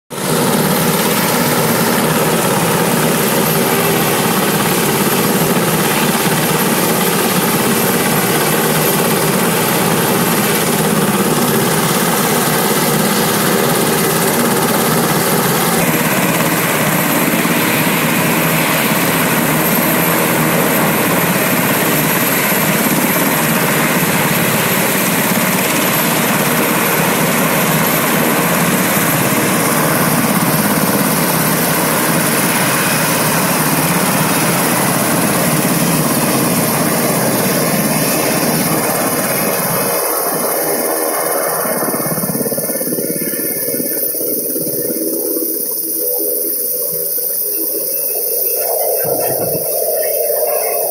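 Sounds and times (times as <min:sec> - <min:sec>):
helicopter engines and rotor running: 0:00.1 - 0:50.9.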